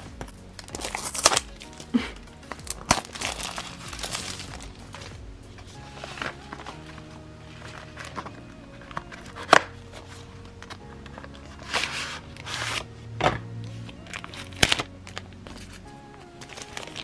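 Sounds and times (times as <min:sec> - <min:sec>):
plastic sleeve rustling: 0:00.0 - 0:17.0
soft background music: 0:00.0 - 0:17.0.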